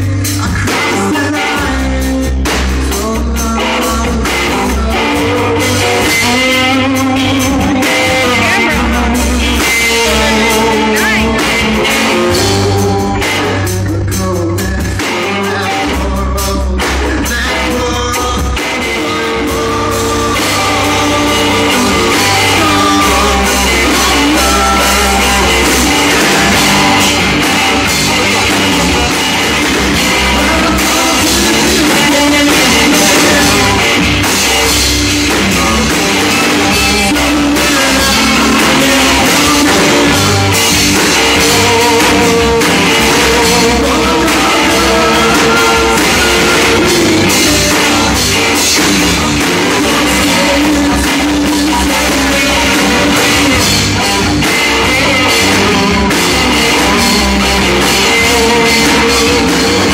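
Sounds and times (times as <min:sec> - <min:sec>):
bass guitar: 0:00.0 - 0:59.9
distorted electric guitars: 0:00.0 - 0:59.9
drum kit: 0:00.0 - 0:59.9
person singing: 0:00.0 - 0:59.9.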